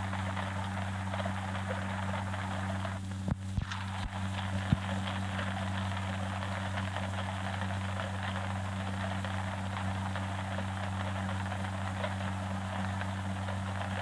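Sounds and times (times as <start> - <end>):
crackling static hiss: 0.0 - 14.0
low electrical hum: 0.0 - 14.0.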